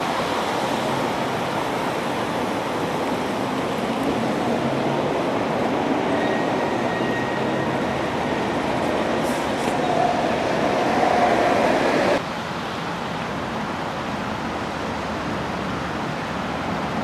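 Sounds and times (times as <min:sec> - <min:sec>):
traffic road noise: 0:00.0 - 0:17.0.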